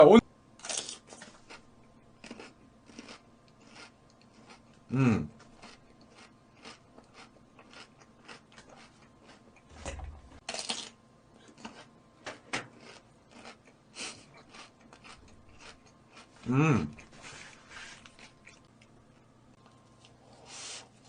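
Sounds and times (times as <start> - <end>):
person chewing food: 0.6 - 12.0, 12.6 - 20.4.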